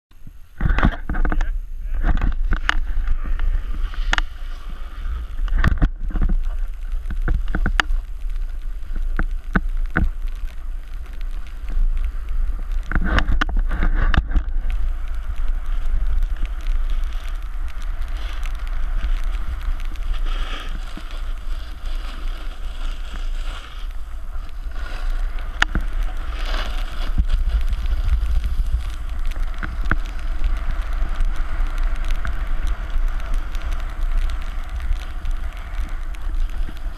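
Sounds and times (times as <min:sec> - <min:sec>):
wind buffeting microphone: 0:00.2 - 0:36.9
snowboard scraping over snow: 0:00.4 - 0:36.9.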